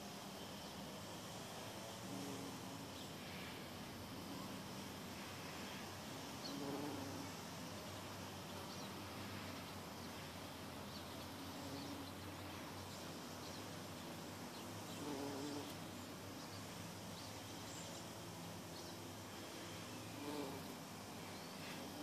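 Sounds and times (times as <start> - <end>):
bumblebee buzzing: 1.2 - 8.2, 10.6 - 22.0.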